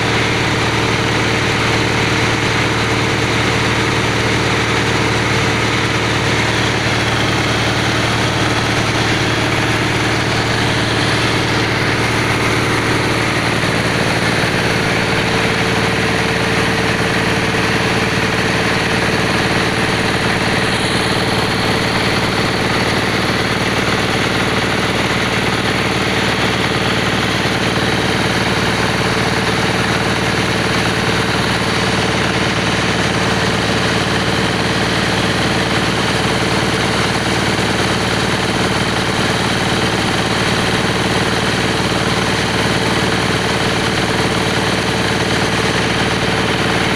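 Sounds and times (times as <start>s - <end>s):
drilling machine engine running: 0.0s - 46.9s.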